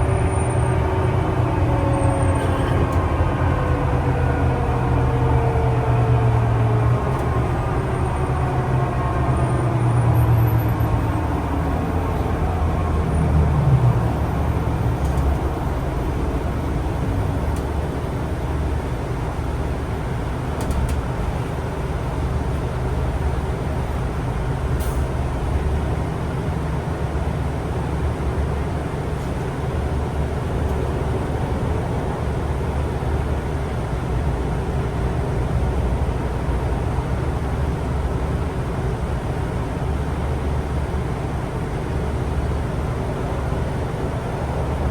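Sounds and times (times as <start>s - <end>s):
transit vehicle whine: 0.0s - 44.9s
vehicle low rumble: 0.0s - 44.9s.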